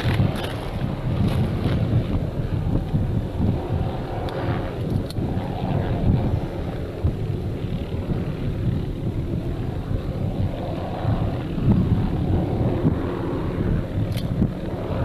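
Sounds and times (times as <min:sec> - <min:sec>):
erupting lava rumbling: 0:00.0 - 0:15.0.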